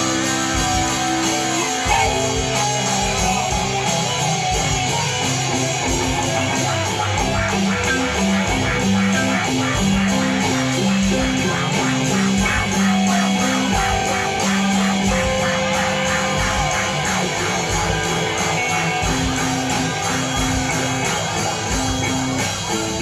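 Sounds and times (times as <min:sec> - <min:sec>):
live rock band playing: 0:00.0 - 0:23.0
strummed guitar rhythm: 0:00.0 - 0:23.0.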